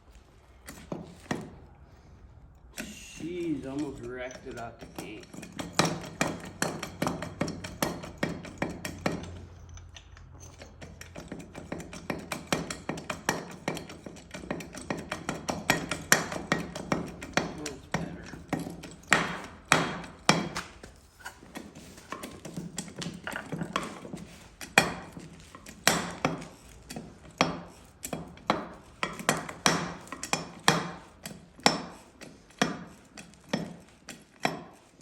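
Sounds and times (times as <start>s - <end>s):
metal knocks and clinks: 2.8s - 35.0s.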